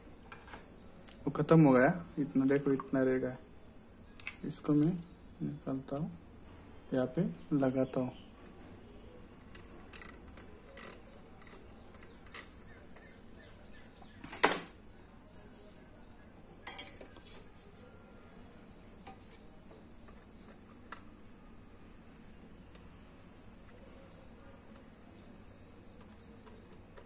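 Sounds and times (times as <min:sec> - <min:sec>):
quiet steady hum: 0:00.0 - 0:27.0.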